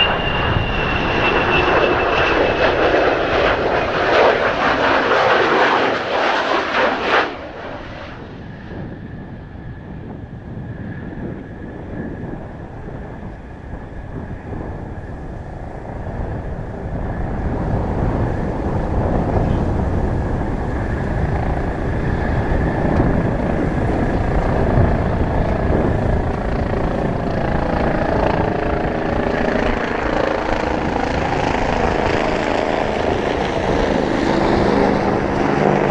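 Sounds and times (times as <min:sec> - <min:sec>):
jet engine rumble: 0:00.0 - 0:35.9
wind buffeting microphone: 0:00.0 - 0:35.9.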